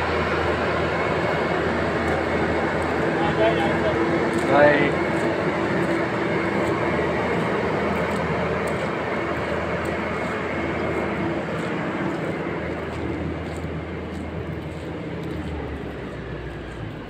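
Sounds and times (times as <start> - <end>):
jet engine whine and rumble: 0.0 - 17.0.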